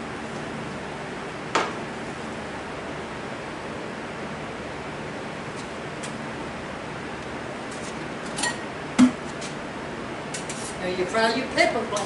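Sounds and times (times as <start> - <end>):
air conditioner hiss and hum: 0.0 - 12.0.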